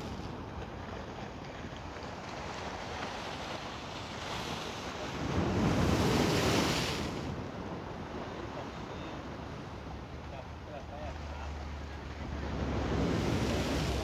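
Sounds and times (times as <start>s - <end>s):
waves crashing against seawall: 0.0s - 14.0s.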